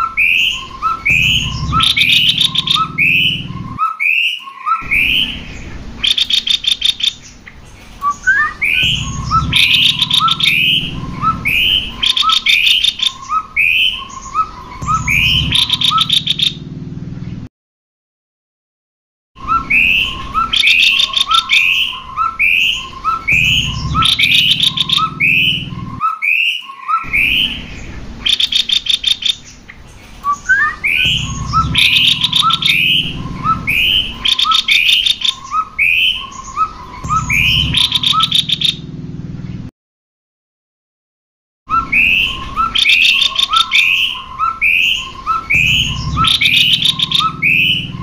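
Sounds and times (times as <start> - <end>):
birds singing whistled phrases and trills: 0.0 - 16.6, 19.4 - 38.9, 41.7 - 48.0.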